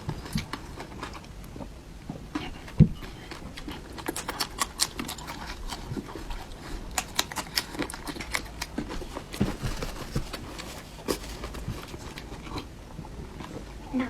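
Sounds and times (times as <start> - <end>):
chewing with mouth smacks: 0.0 - 13.9.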